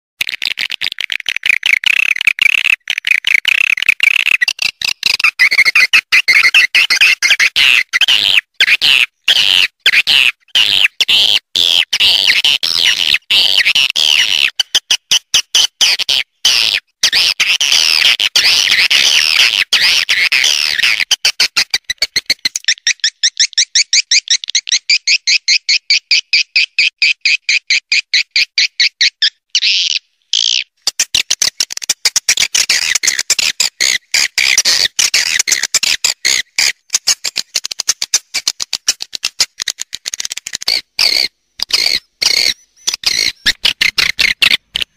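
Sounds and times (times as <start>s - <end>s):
fast repeating short chirps: 0.2s - 11.1s, 11.8s - 44.9s.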